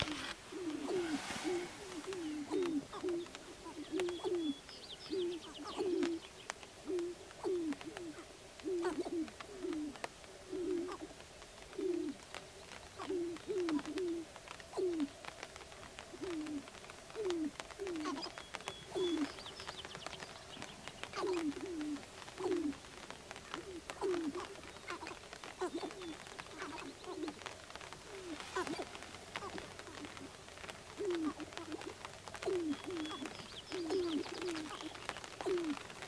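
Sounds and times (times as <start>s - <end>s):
grouse cooing: 0.0s - 12.2s, 12.9s - 19.5s, 20.6s - 36.0s.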